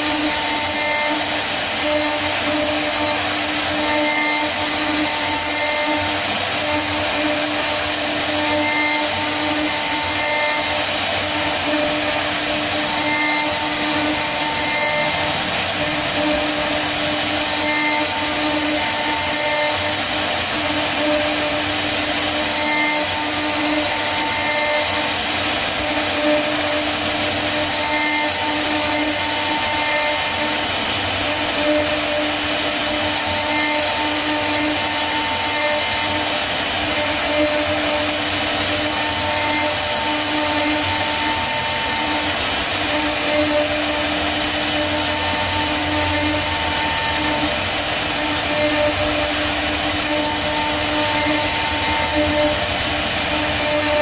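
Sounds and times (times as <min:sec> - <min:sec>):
router spindle whining while cutting wood: 0:00.0 - 0:54.0.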